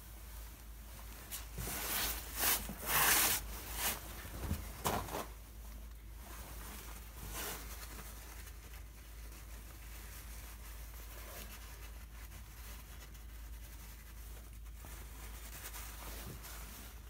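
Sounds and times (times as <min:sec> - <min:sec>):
paper towel rustling: 0:00.0 - 0:17.0.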